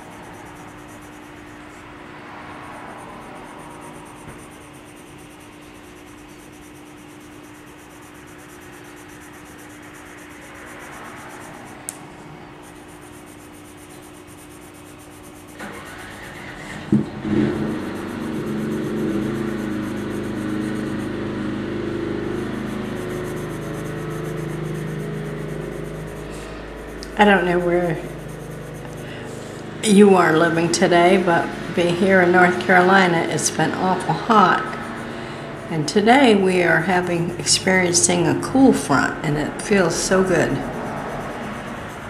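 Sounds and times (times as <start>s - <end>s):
faint low hum: 0.0s - 42.0s
mechanical noise: 0.0s - 42.0s
pencil rubbing on paper: 0.0s - 42.0s
steady machine hum: 0.0s - 42.0s.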